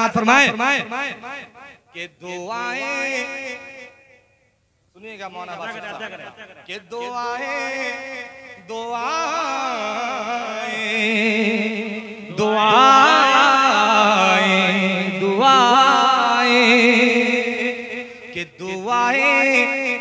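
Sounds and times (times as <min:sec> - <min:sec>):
man singing into a microphone: 0:01.9 - 0:03.7, 0:05.5 - 0:20.0.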